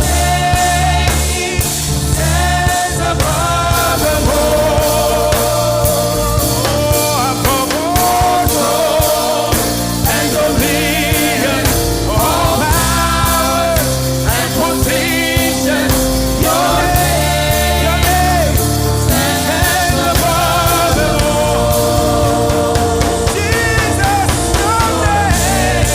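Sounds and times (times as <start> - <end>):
band with bass and drums: 0.0 - 25.9
person singing lead vocals: 0.0 - 25.9.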